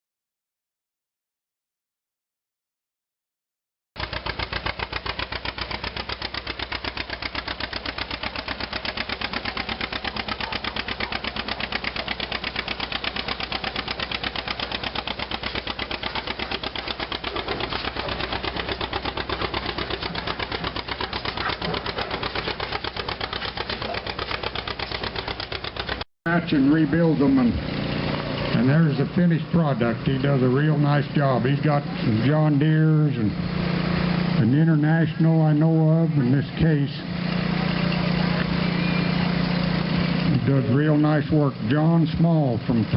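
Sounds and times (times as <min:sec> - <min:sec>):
tractor engine running: 0:04.0 - 0:42.9.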